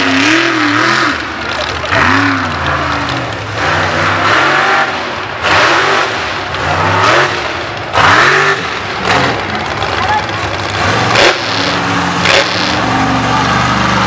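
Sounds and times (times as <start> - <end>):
buggy engine revving hard: 0.0 - 14.0.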